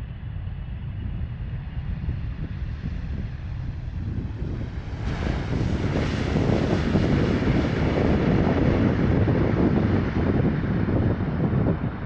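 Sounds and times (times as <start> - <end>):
jet airliner roar: 0.0 - 12.0.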